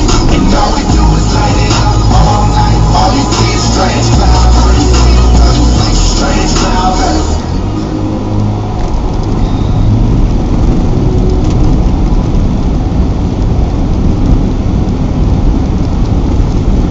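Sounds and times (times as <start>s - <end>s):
car engine: 0.0s - 16.9s.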